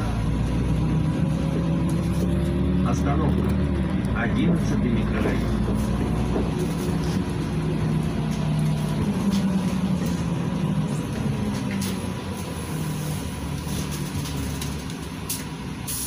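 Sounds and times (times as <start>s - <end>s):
bus engine running: 0.0s - 16.0s
road rumble: 0.0s - 16.0s.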